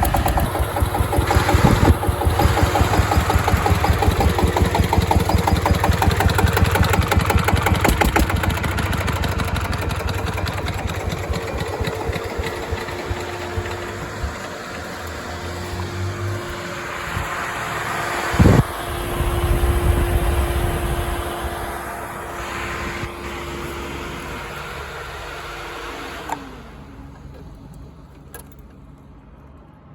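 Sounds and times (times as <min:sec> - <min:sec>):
diesel engine knocking: 0:00.0 - 0:28.3.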